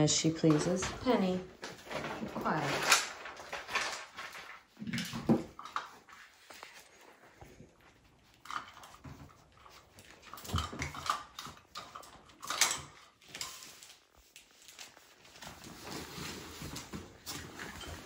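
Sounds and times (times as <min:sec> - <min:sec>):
puppies scuffling: 0:00.0 - 0:18.0.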